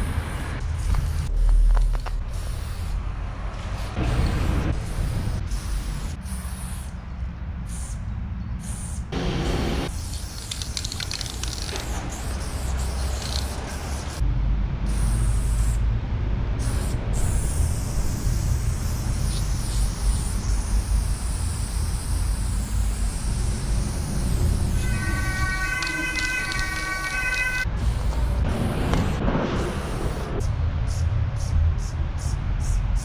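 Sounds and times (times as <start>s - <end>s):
spray-paint can hissing: 0.0s - 3.0s, 3.6s - 6.9s, 7.7s - 8.0s, 8.6s - 9.0s, 9.9s - 14.2s, 14.9s - 15.8s, 16.6s - 33.0s.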